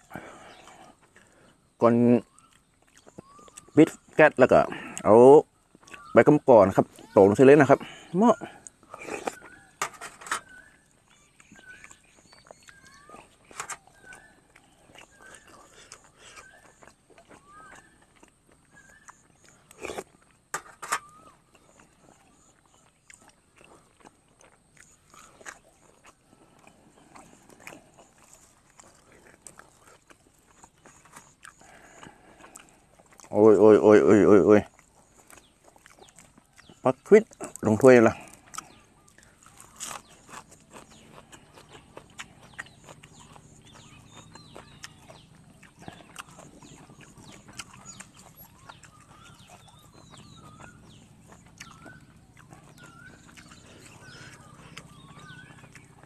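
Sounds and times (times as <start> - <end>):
person chewing food: 0.0 - 33.8, 34.6 - 56.0
high chirping: 1.4 - 20.2, 26.6 - 56.0.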